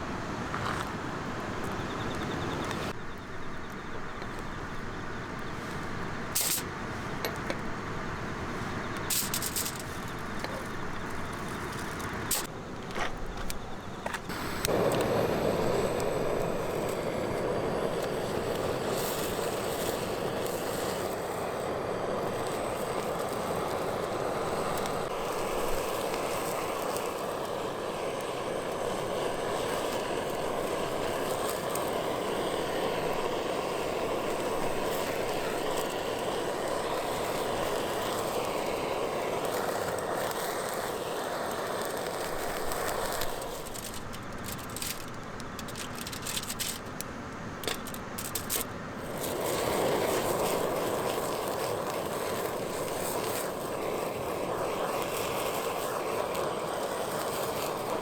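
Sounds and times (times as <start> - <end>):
wood fire crackling: 0.3 - 13.6, 14.2 - 58.0.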